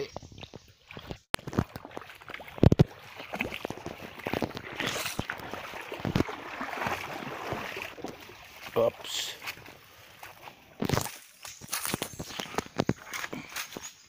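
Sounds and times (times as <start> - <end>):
footsteps sloshing through water: 0.0 - 14.0.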